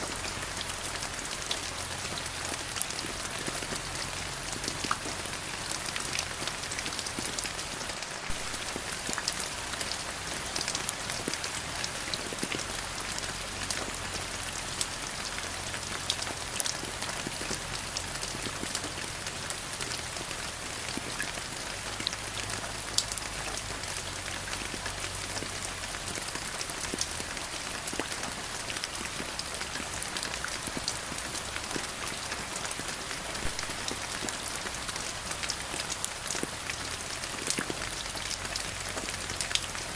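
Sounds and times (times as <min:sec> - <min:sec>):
rain falling: 0:00.0 - 0:39.9
raindrops pattering: 0:00.0 - 0:39.9.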